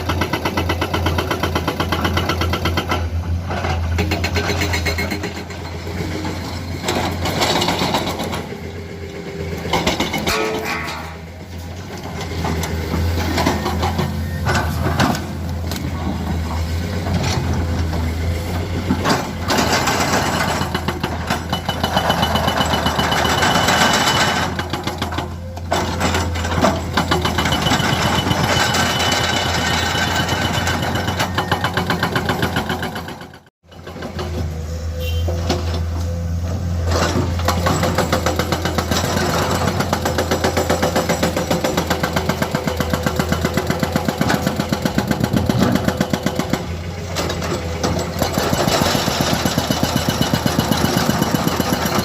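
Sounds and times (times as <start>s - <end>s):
diesel machinery engine hum: 0.0s - 10.3s, 10.9s - 52.0s.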